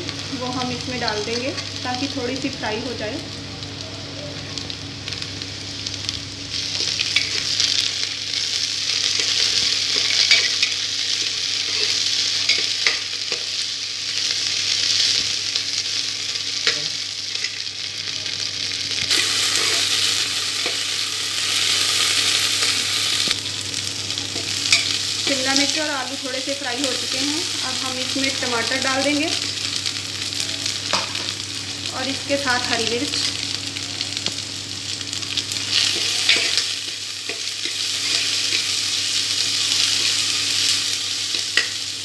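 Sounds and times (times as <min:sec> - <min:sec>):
vegetables sizzling in oil: 0:00.0 - 0:42.0.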